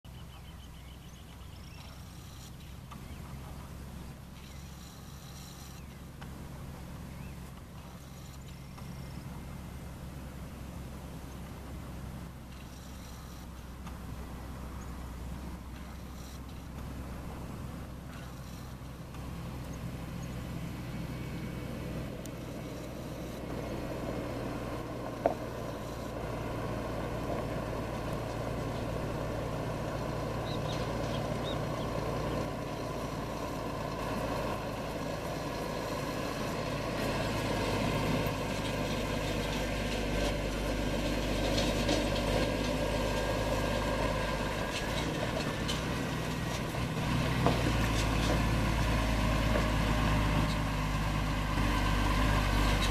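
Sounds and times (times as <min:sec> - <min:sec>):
truck diesel engine driving: 0:00.0 - 0:52.9.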